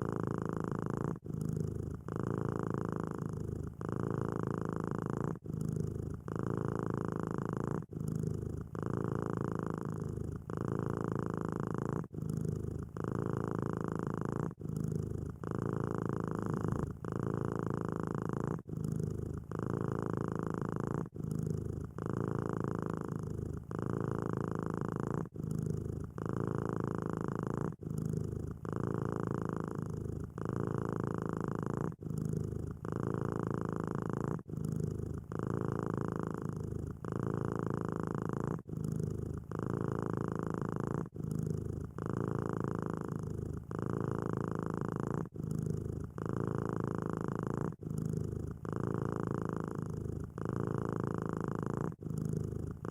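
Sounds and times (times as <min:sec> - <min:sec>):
cat purring: 0:00.0 - 0:52.9.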